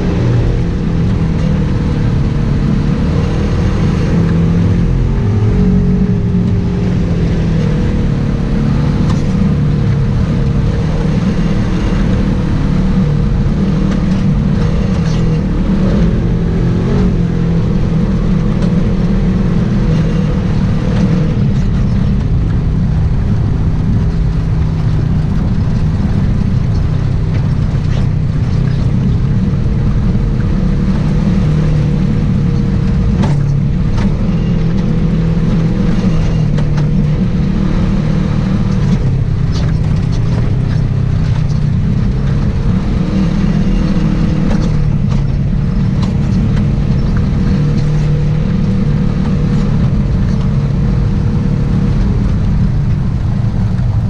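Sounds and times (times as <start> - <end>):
vehicle engine under load: 0.0 - 54.0.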